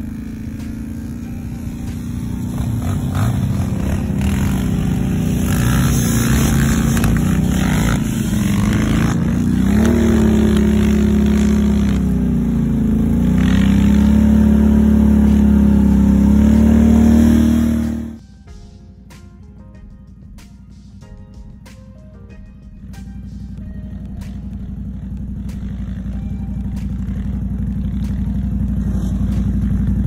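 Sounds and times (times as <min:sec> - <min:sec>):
off-road vehicle engines revving: 0:00.0 - 0:18.2, 0:22.9 - 0:30.0.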